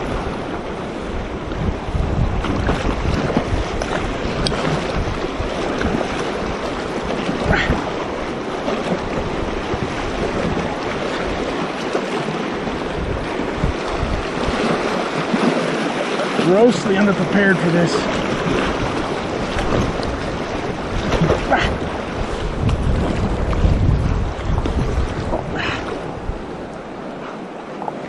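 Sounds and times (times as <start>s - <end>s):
river rapids rushing and splashing: 0.0s - 28.0s
wind rumbling on microphone: 0.0s - 28.0s.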